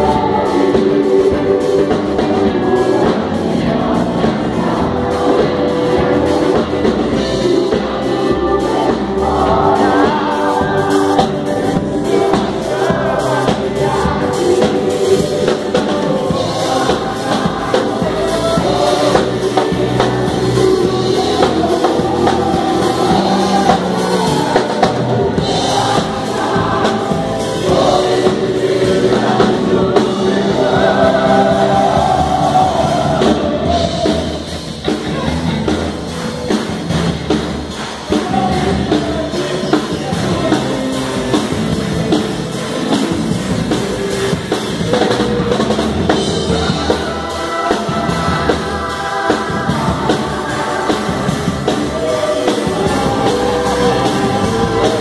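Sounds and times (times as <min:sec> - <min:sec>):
band with drum kit playing: 0:00.0 - 0:55.0
many voices singing: 0:00.0 - 0:55.0.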